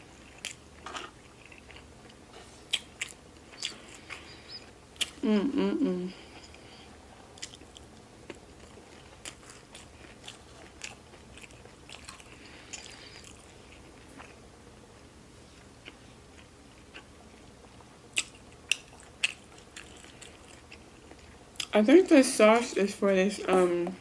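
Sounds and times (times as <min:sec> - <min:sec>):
chewing and biting mouth sounds: 0:00.0 - 0:05.2, 0:06.2 - 0:14.4, 0:15.6 - 0:21.7.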